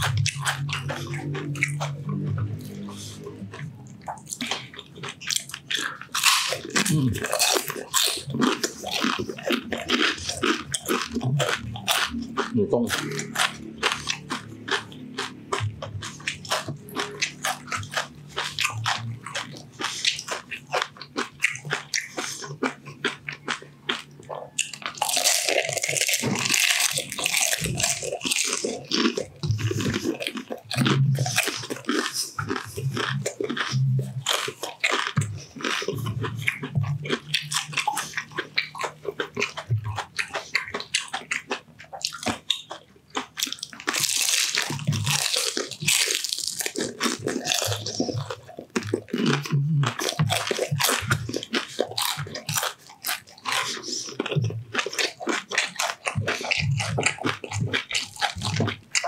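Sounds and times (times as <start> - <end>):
crunching and chewing crispy food: 0.0 - 59.0.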